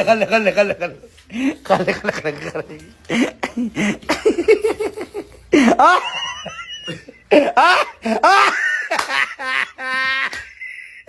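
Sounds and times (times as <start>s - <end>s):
people laughing hard: 1.6s - 11.0s.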